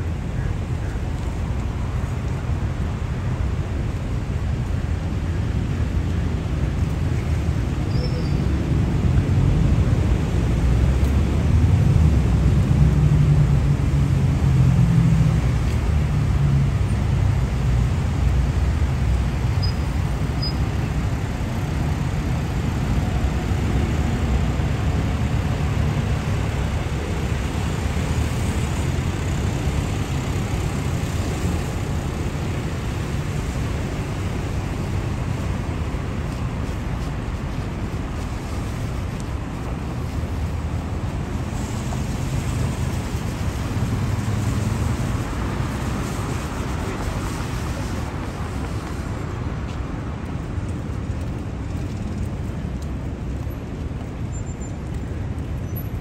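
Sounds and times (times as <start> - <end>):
heavy road traffic rumble: 0.0 - 56.0.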